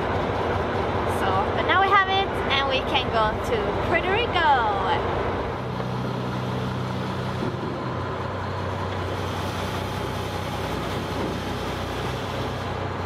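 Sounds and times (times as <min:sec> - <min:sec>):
ferry engines droning: 0:00.0 - 0:13.0
rush of wind and water: 0:00.0 - 0:13.0.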